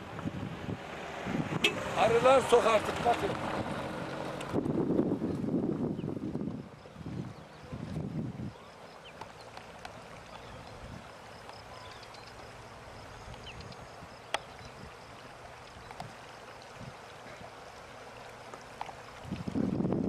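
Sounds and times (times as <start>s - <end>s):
open-air ambience hiss: 0.0s - 20.0s.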